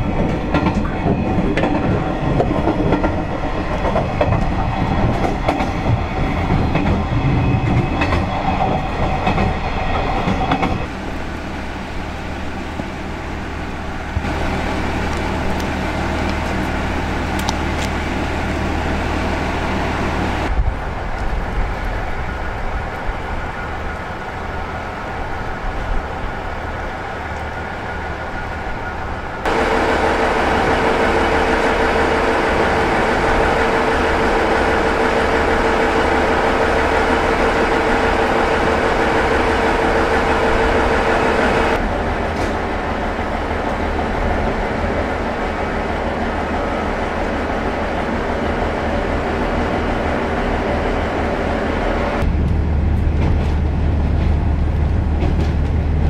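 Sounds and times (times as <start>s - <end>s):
diesel railcar engines idling: 10.8s - 56.0s.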